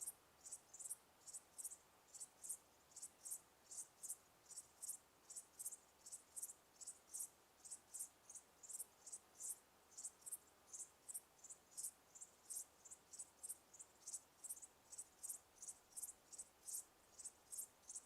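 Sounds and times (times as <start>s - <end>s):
crickets chirping: 0.0s - 18.0s
faint background hiss: 0.0s - 18.0s.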